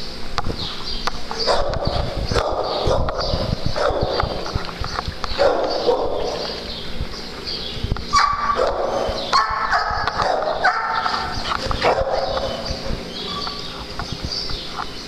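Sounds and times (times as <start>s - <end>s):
dogs barking: 1.3s - 14.2s.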